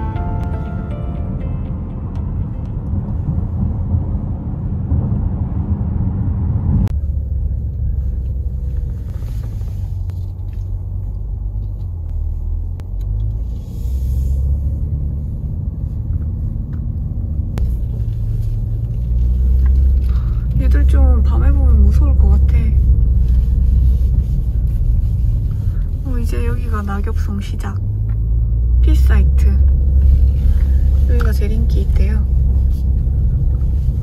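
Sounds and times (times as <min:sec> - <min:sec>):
car driving slowly: 0:00.0 - 0:34.0.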